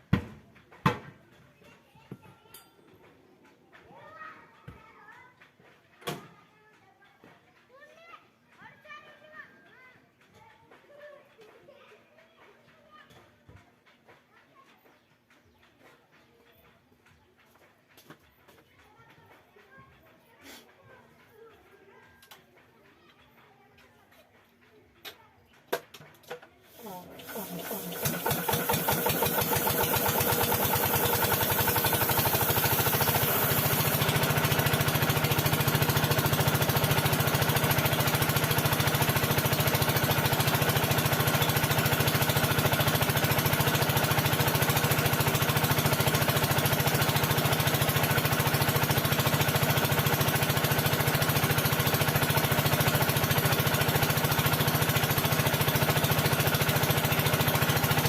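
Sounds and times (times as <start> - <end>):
small engine knocking: 0.0 - 58.0.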